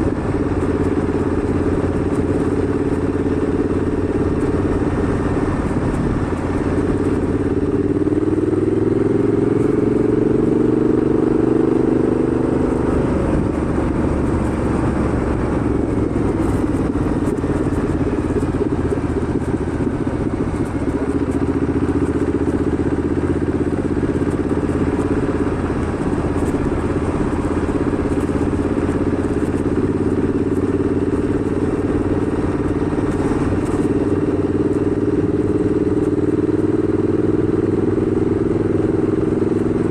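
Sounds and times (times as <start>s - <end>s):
wind noise: 0.0s - 36.5s
motorcycle engine running: 0.0s - 39.9s.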